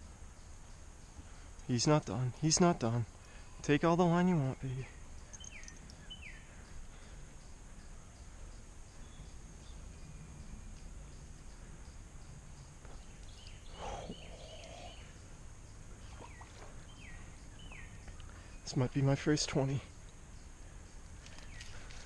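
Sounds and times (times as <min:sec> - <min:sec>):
outdoor background rush: 0:00.0 - 0:22.0.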